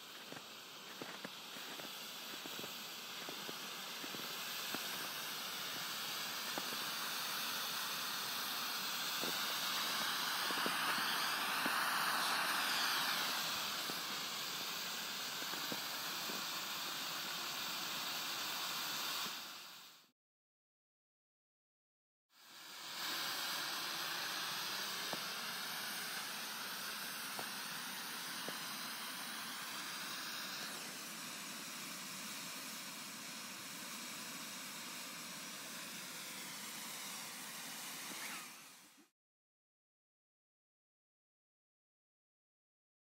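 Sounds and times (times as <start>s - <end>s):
smoke hissing from canister: 0.0s - 20.1s, 22.4s - 39.1s.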